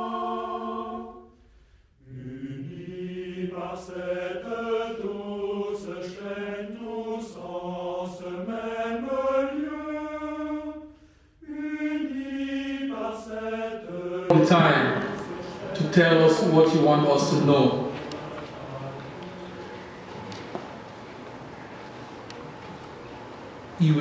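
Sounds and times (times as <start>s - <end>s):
voices singing a hymn: 0.0s - 24.0s.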